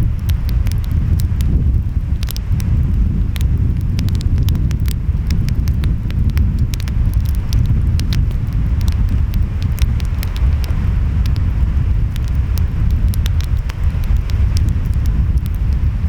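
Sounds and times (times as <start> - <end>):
wind: 0.0 - 16.0
wood fire crackling: 0.0 - 16.0.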